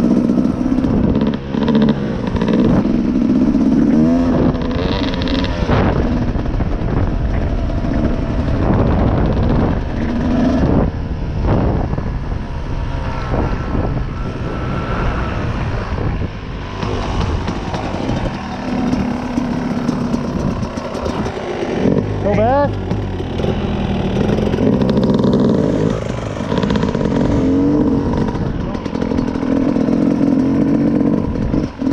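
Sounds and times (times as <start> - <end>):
constant rushing noise: 0.0 - 31.9
dirt bike engine revving: 0.0 - 31.9.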